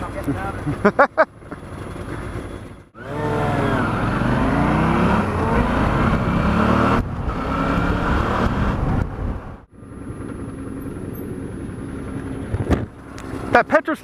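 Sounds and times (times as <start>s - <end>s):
motorcycle engine accelerating: 0.0s - 13.8s.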